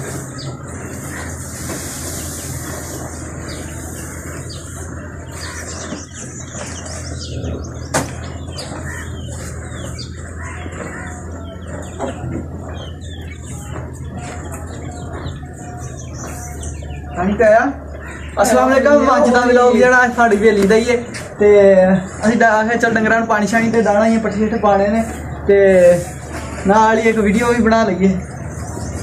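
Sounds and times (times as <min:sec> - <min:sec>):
small birds chirping: 0:00.0 - 0:29.0
steady low hum: 0:00.0 - 0:29.0.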